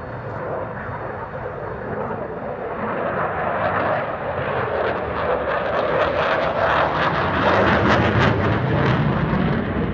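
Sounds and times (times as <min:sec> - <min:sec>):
jet flying past: 0:00.0 - 0:09.9.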